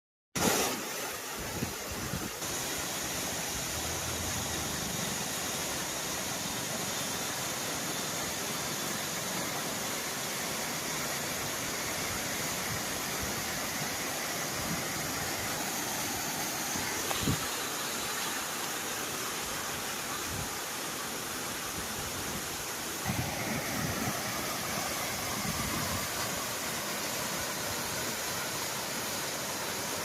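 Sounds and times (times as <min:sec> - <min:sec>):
waterfall rushing: 0:01.8 - 0:30.0.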